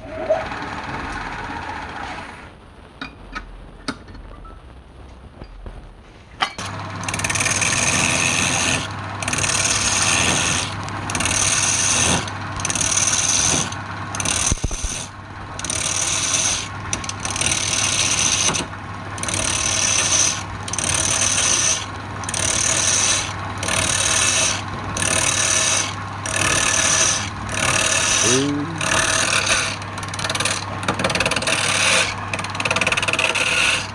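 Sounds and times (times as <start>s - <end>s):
lathe motor humming: 6.6s - 33.9s
tool scraping spinning wood: 6.6s - 33.9s.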